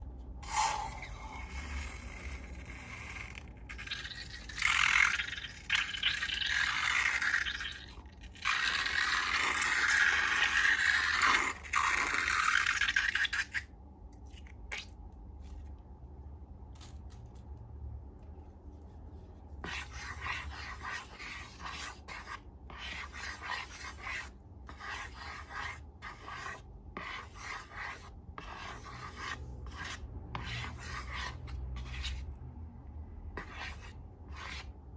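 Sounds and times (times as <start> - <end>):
scraping and rubbing of slime materials: 0.4 - 13.7, 18.3 - 32.3, 33.4 - 34.9.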